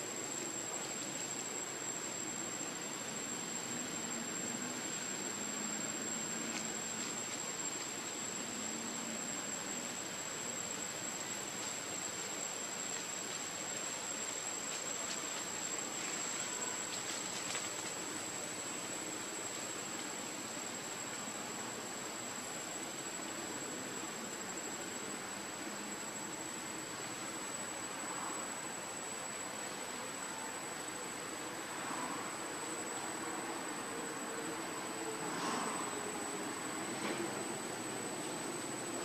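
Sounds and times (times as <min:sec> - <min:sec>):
insects calling: 0:00.0 - 0:39.0.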